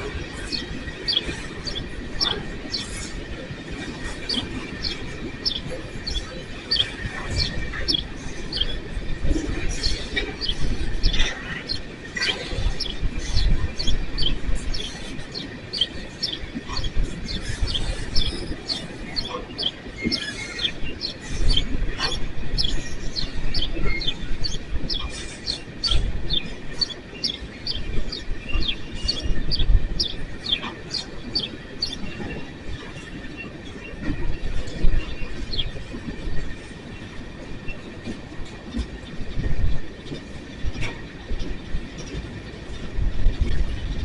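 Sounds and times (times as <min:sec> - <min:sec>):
train cars rumbling: 0:00.0 - 0:44.0.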